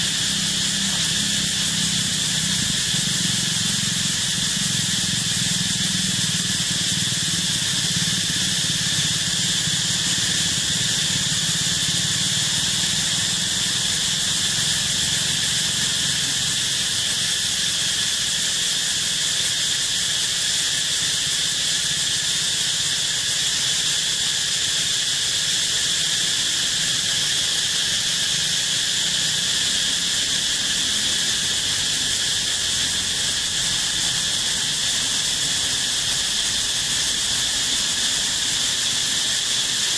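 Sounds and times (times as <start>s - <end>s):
insect chorus shrill drone: 0.0s - 39.9s.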